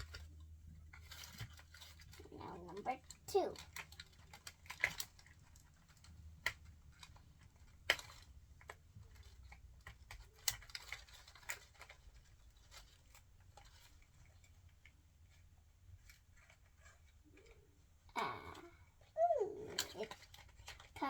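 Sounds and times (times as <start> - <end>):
plastic packaging crackling: 0.0 - 17.6.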